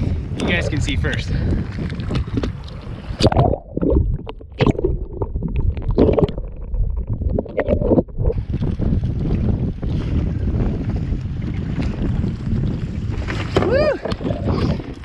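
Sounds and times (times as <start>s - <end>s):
muffled underwater rumbling and knocking: 0.0s - 15.0s
wind noise on microphone: 0.0s - 15.0s.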